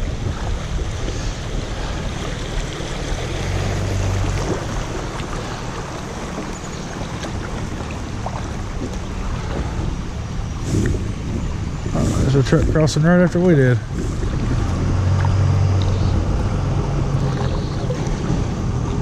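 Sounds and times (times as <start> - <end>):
river water rushing over riffle: 0.0 - 19.0.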